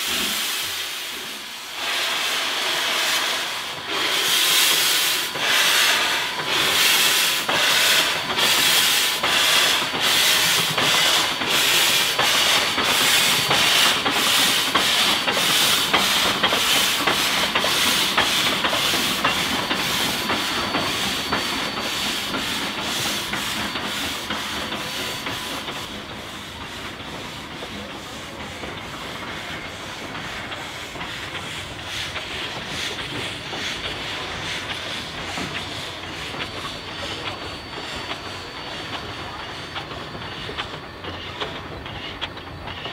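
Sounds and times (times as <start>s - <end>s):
steam locomotive chuffing: 0.0s - 42.9s.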